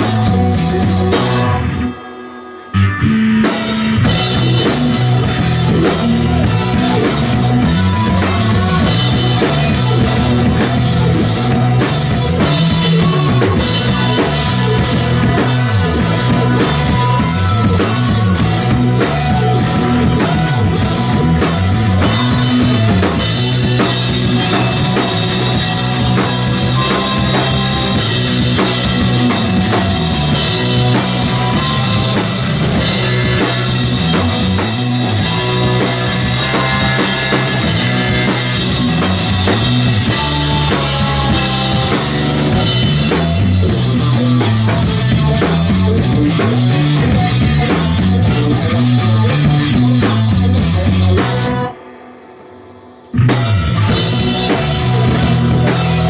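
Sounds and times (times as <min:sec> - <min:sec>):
bass line: 0:00.0 - 0:51.8, 0:53.2 - 0:56.0
drum kit: 0:00.0 - 0:56.0
electric guitar: 0:00.0 - 0:56.0
keyboard synthesizer: 0:00.0 - 0:56.0.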